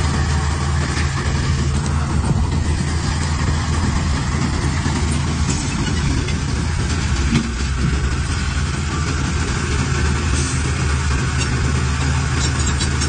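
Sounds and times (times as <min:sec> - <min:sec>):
heavy machine engine droning: 0:00.0 - 0:13.0.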